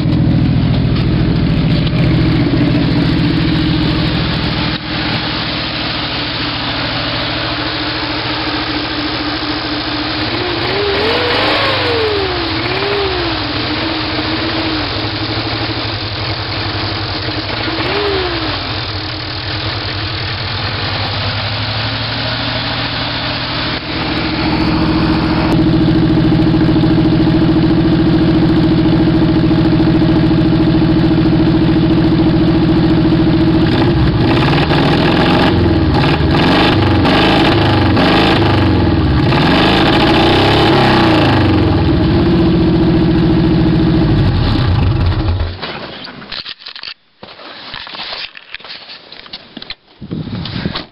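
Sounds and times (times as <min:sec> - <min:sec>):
car engine revving: 0:00.0 - 0:45.5.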